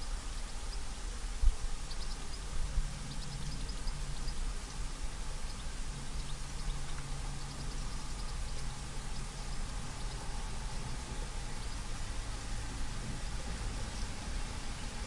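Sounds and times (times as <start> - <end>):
distant road traffic hum: 0.0 - 15.0
small birds chirping: 0.0 - 15.0.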